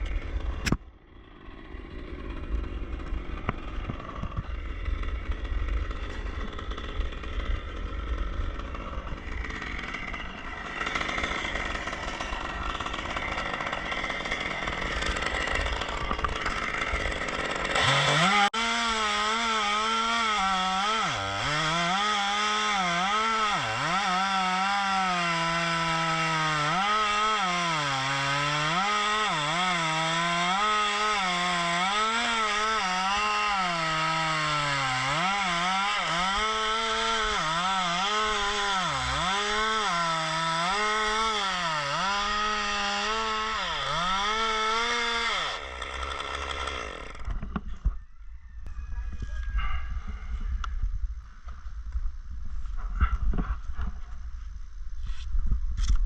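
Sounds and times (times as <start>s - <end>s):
chainsaw cutting wood: 0.0s - 47.8s.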